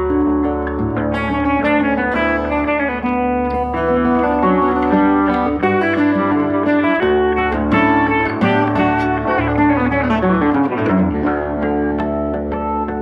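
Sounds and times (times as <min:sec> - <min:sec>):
held low bass notes: 0:00.0 - 0:13.0
plucked guitar run: 0:00.0 - 0:13.0.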